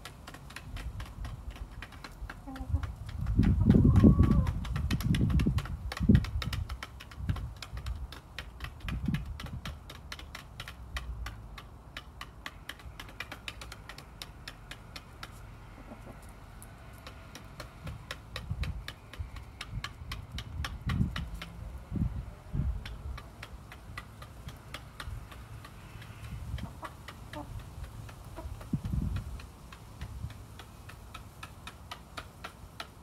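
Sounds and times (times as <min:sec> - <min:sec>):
beaks clicking on dishes: 0:00.0 - 0:15.5, 0:17.0 - 0:21.7, 0:22.8 - 0:33.0.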